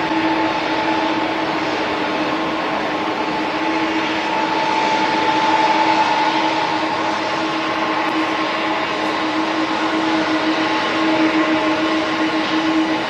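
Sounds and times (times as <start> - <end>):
jet engines at take-off thrust: 0.0 - 13.0.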